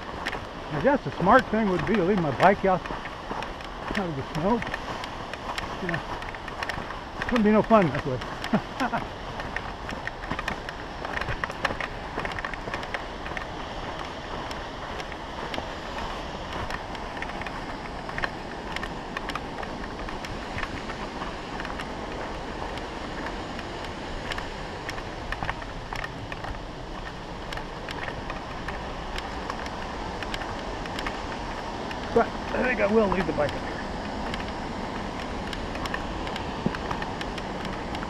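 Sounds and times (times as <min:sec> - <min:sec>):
bike rattling over bumps: 0:00.0 - 0:38.0.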